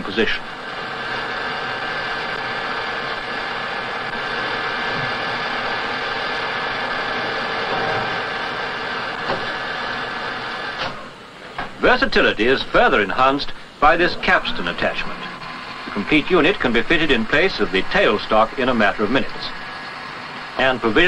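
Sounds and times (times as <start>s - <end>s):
lathe whining while cutting: 0.0s - 10.8s, 14.5s - 21.0s.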